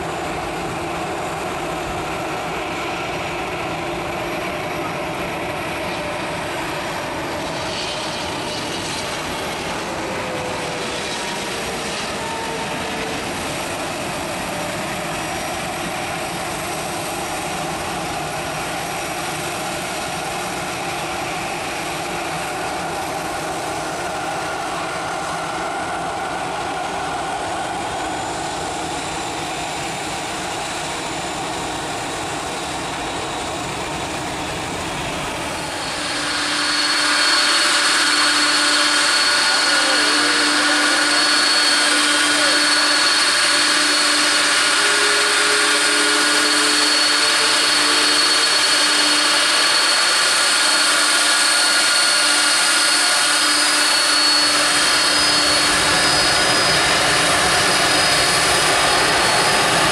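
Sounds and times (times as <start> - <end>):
jet roar on runway: 0.0 - 59.9
jet taxiing with high whine: 0.0 - 59.9.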